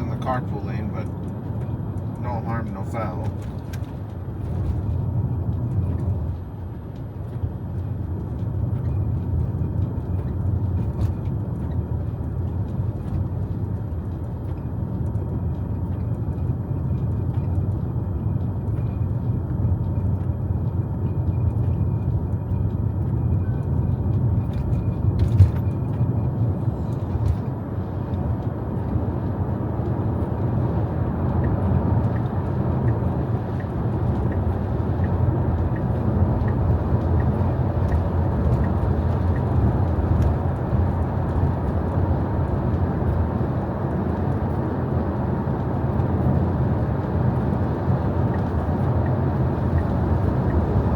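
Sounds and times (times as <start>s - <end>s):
road and tyre rumble in car: 0.0s - 50.9s.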